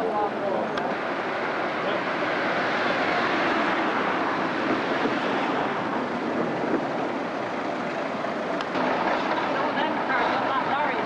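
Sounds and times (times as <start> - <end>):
bus and cars driving: 0.0 - 11.0
rumble of slow traffic: 0.0 - 11.0.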